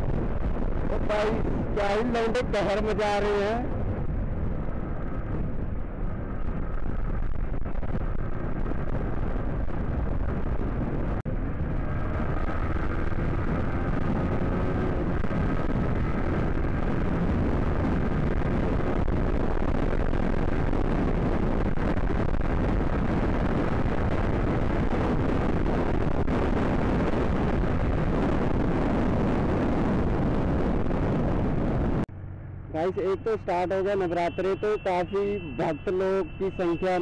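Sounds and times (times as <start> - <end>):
motorcycle running: 0.0 - 37.0
road noise: 0.0 - 37.0
wind buffeting microphone: 0.0 - 37.0.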